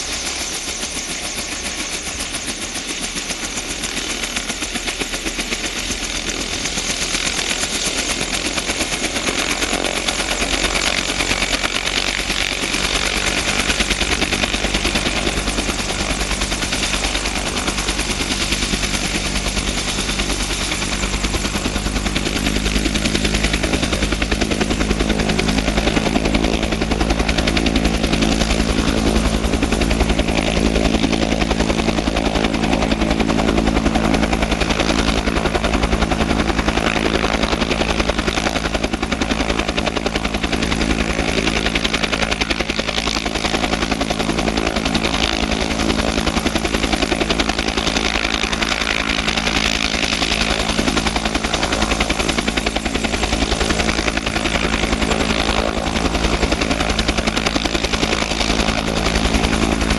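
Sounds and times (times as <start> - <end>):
helicopter rotor beat: 0.0 - 59.9
turboshaft engine running: 1.0 - 59.9.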